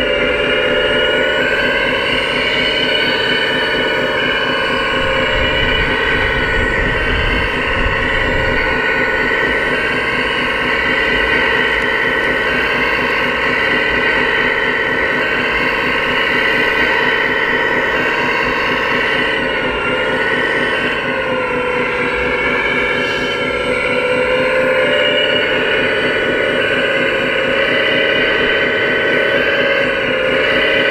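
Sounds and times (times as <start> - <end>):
toy machinery mechanical whine: 0.0 - 30.9.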